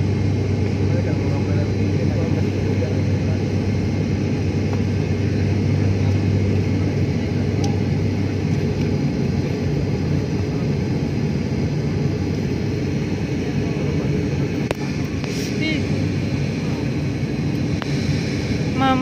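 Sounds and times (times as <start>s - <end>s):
airliner engines and airflow rumble: 0.0s - 19.0s
low hum: 0.0s - 19.0s.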